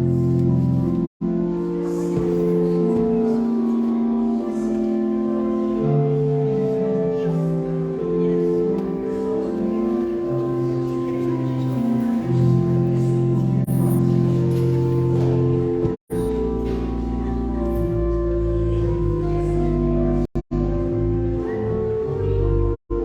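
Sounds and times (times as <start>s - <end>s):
organ chords: 0.0s - 23.0s.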